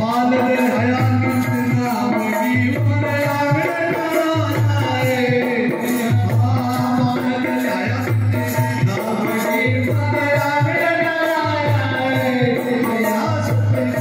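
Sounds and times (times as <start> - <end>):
hand drum beat: 0.0 - 14.0.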